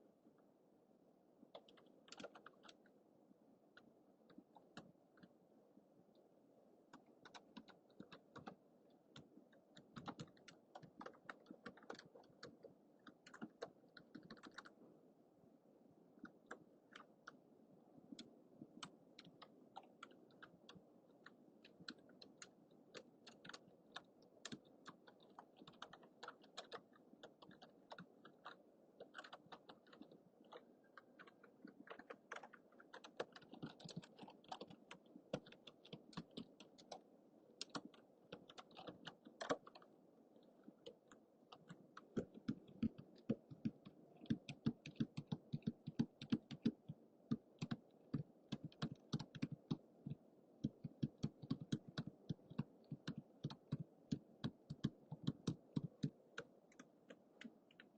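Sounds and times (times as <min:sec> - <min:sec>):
computer keyboard typing: 0:01.5 - 0:02.9, 0:06.9 - 0:14.8, 0:16.2 - 0:17.4, 0:18.2 - 0:37.0, 0:37.6 - 0:39.9, 0:40.6 - 0:57.9.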